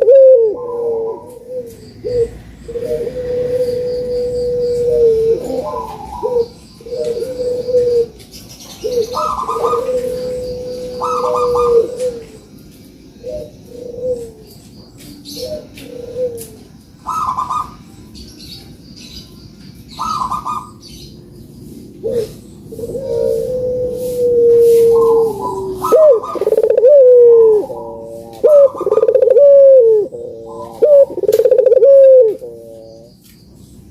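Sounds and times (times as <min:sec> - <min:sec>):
doves cooing: 0:00.0 - 0:14.5, 0:15.2 - 0:17.8, 0:20.0 - 0:33.2.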